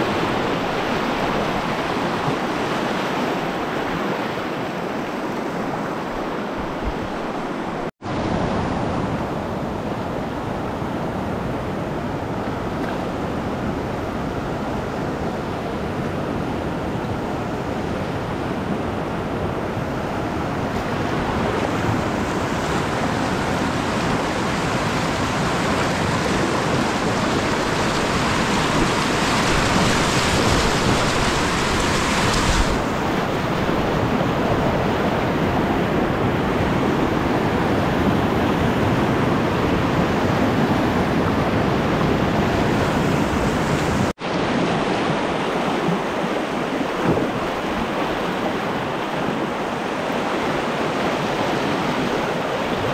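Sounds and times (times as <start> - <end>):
rushing whitewater roar: 0.0 - 52.9.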